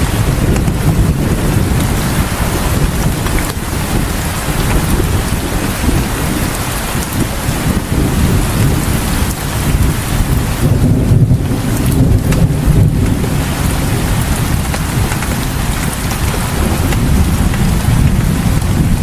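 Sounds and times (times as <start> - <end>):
continuous low rumble: 0.0 - 19.0
heavy rain falling: 0.0 - 19.0.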